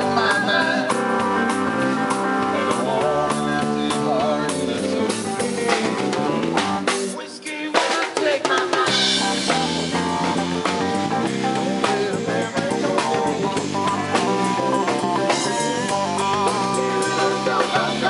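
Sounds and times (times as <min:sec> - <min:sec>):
electric guitar lead with bent notes: 0:00.0 - 0:07.1, 0:08.9 - 0:18.0
electric bass: 0:00.0 - 0:07.2, 0:08.9 - 0:18.0
drum kit: 0:00.0 - 0:18.0.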